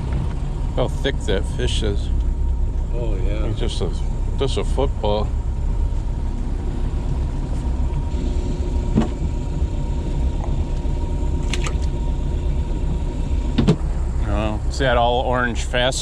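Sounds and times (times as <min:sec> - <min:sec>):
boat motor rumbling: 0:00.0 - 0:16.0.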